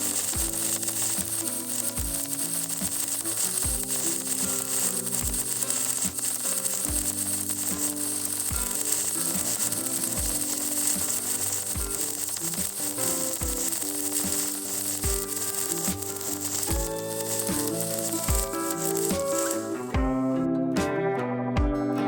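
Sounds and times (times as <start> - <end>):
welding arc crackling: 0.0 - 20.0
background music with bass drum: 0.0 - 22.0.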